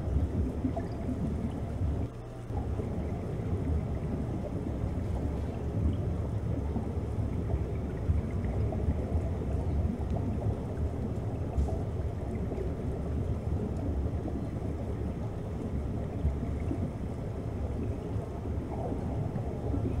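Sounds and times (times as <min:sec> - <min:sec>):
underwater rumble of moving water: 0:00.0 - 0:20.0.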